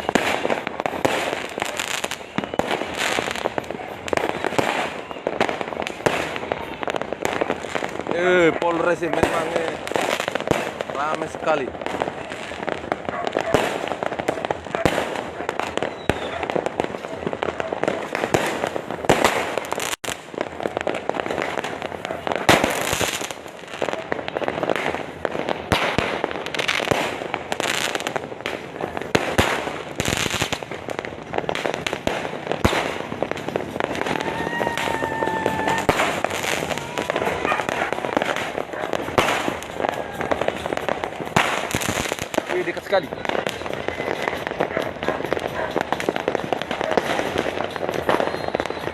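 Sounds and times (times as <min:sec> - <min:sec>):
firework whistling: 0:00.0 - 0:48.9
fireworks bangs and crackles: 0:00.0 - 0:48.9.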